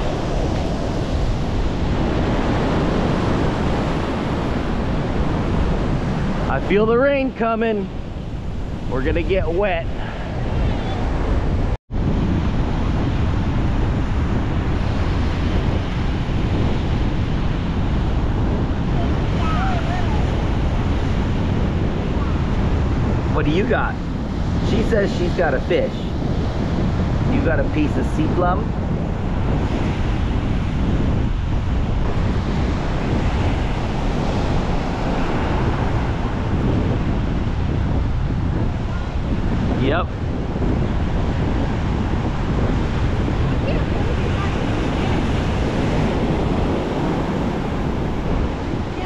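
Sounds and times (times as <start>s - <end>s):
surf breaking on shore: 0.0s - 49.0s
wind buffeting microphone: 0.0s - 49.0s.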